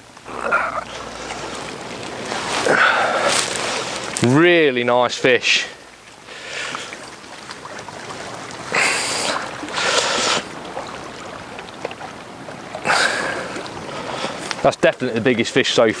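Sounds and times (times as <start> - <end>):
water lapping at bank: 0.0 - 16.0.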